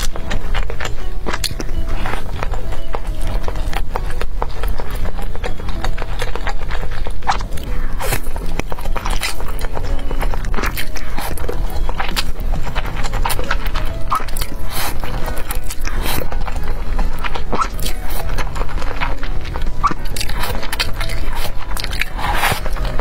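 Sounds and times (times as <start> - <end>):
background music with held notes: 0.0 - 23.0
slurping and chewing noodles: 0.0 - 23.0.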